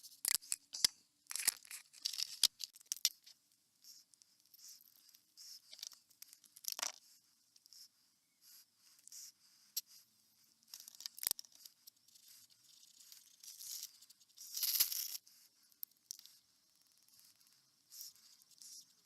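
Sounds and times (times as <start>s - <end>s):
crinkly handling noises: 0.0s - 7.9s, 9.0s - 16.4s.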